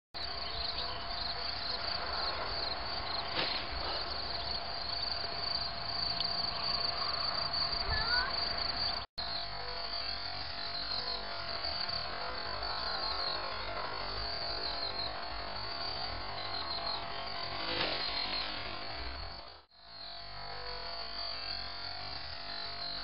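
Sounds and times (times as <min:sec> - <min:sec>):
crickets chirping: 0:00.2 - 0:23.0.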